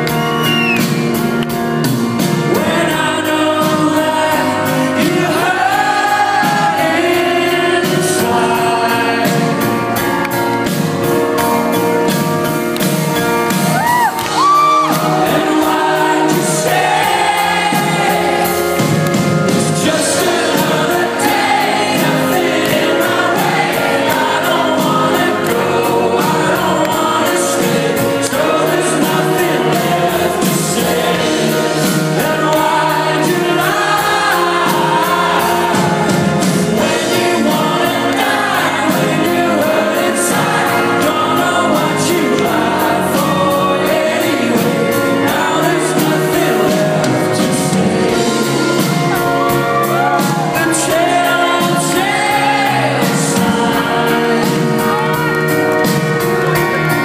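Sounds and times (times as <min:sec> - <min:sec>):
live pop-rock band: 0:00.0 - 0:57.0
male lead vocal: 0:02.2 - 0:10.0, 0:13.8 - 0:55.6.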